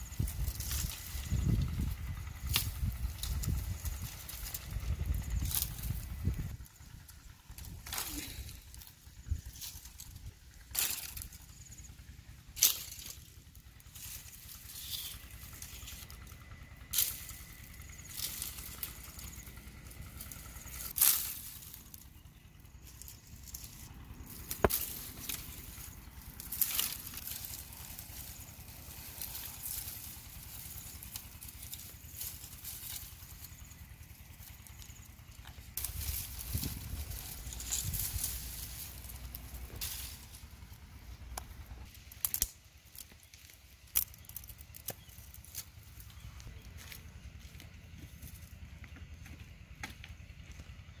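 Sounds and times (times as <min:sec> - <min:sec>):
brush rustling: 0:00.0 - 0:48.5
dry branches snapping: 0:00.1 - 0:11.5, 0:12.5 - 0:47.6.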